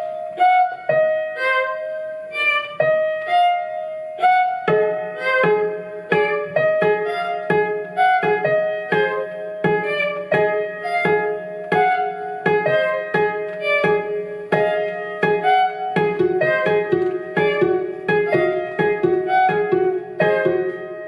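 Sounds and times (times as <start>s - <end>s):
small ensemble instrumental music: 0.0s - 21.0s.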